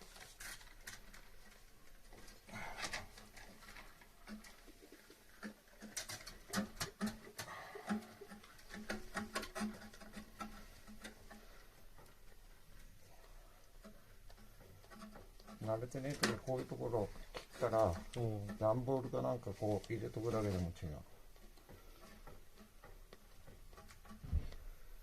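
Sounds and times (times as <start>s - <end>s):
light clicks and knocks: 0.2s - 25.0s.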